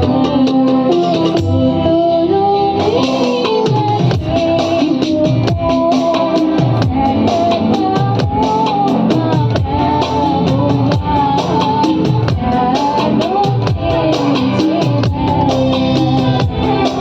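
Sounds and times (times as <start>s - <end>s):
lead melody with gliding notes: 0.0s - 17.0s
steady drum beat: 2.9s - 17.0s.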